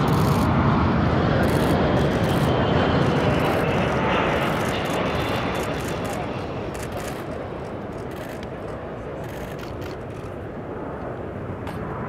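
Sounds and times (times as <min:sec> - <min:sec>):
jet airliner rumbling overhead: 0:00.0 - 0:12.0.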